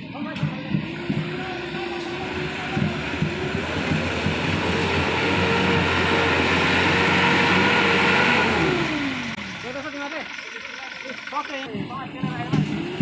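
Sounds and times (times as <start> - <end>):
diesel truck engine labouring: 0.0 - 13.0.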